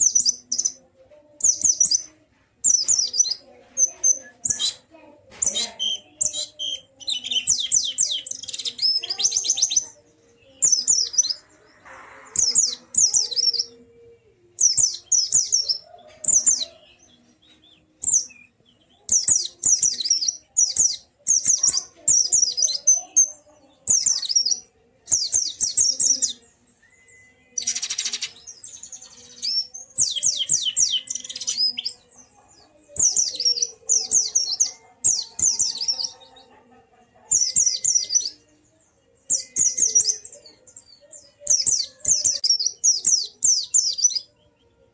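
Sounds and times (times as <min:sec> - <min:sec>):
bird twittering song: 0:00.0 - 0:13.9, 0:14.5 - 0:36.7, 0:37.3 - 0:44.7.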